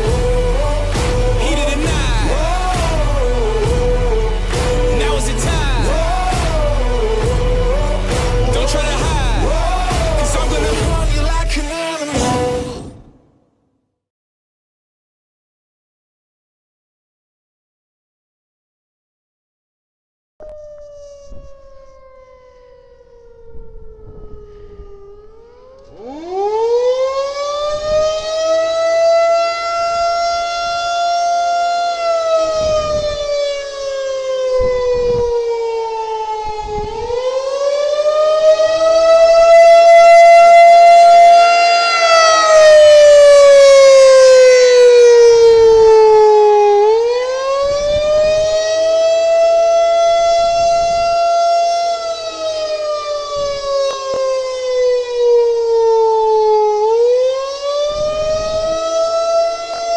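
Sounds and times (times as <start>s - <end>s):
rotating warning siren wailing: 0.0s - 12.3s, 20.4s - 59.9s.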